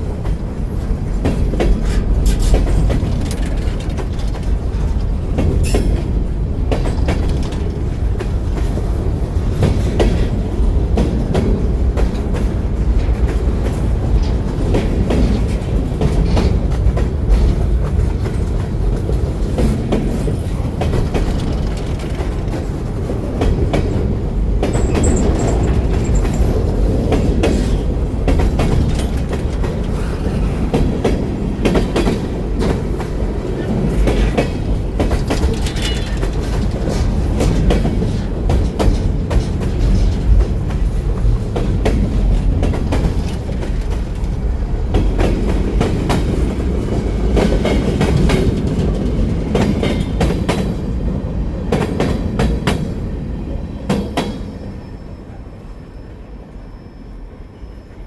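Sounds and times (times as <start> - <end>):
train wheel clicks and knocks: 0.0 - 51.0, 51.7 - 53.1, 53.9 - 54.6
freight train rumbling past: 0.0 - 58.0.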